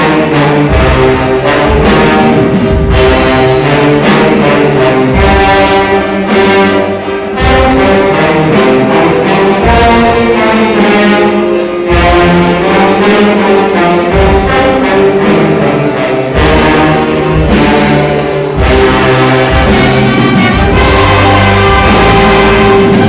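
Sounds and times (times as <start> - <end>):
brass sustained chords: 0.0 - 23.0
orchestra and band playing: 0.0 - 23.0.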